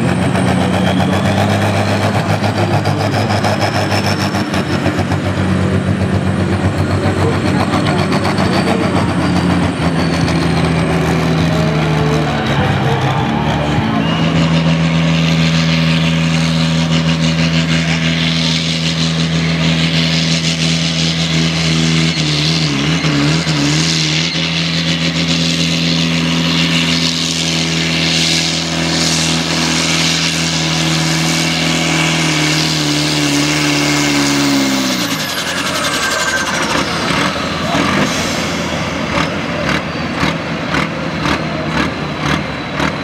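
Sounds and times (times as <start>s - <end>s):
diesel tractor engine at high revs: 0.0s - 43.0s.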